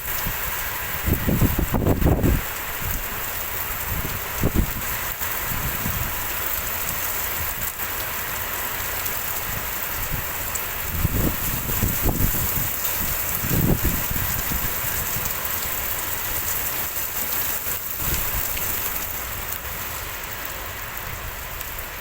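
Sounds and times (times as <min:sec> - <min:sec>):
wind buffeting microphone: 0:00.0 - 0:07.7, 0:09.4 - 0:19.6
heavy rain hissing: 0:00.0 - 0:22.0.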